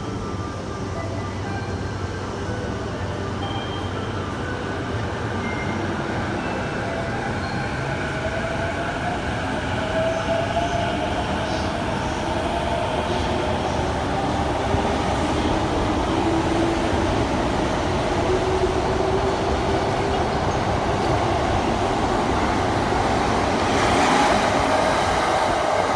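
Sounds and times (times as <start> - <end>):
wheels on rail: 3.5 - 25.9.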